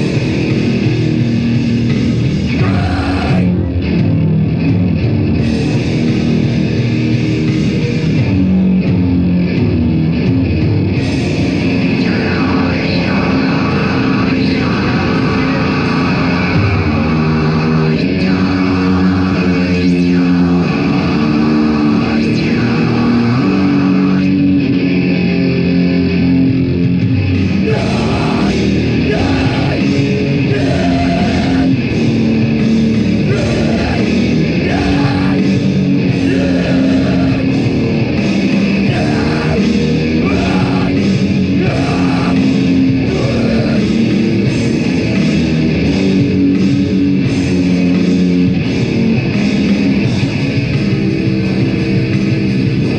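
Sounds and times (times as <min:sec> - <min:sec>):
heavy band playing: 0:00.0 - 0:52.9.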